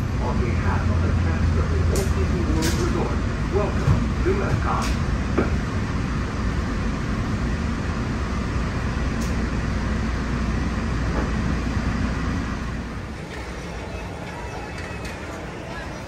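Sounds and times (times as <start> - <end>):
monorail rumbling: 0.0 - 16.0.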